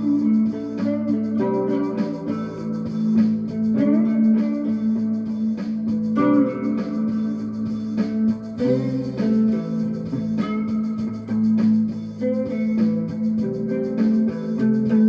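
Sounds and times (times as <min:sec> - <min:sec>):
low string drone: 0:00.0 - 0:15.0
plucked string melody: 0:00.0 - 0:15.0.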